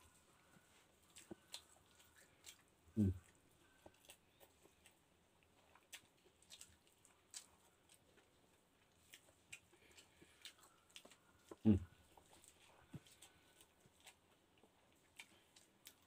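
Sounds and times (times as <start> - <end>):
close chewing with mouth smacks: 0.0 - 16.0.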